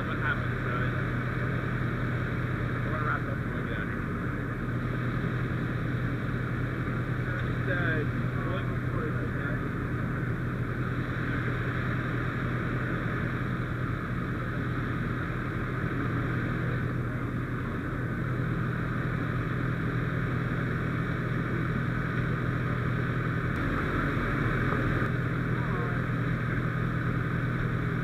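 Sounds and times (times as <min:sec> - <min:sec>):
fire engine pump humming: 0:00.0 - 0:28.0.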